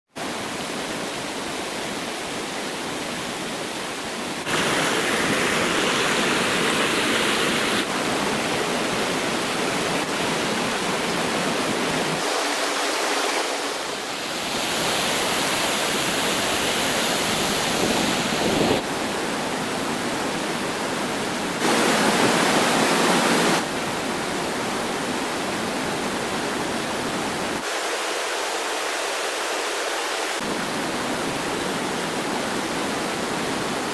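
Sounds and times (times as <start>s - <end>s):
stream water rushing: 0.2s - 33.9s.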